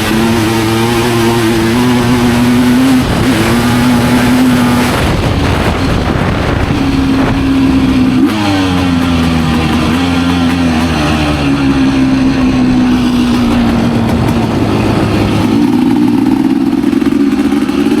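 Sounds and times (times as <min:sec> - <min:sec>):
racing motorcycle engine: 0:00.0 - 0:18.0.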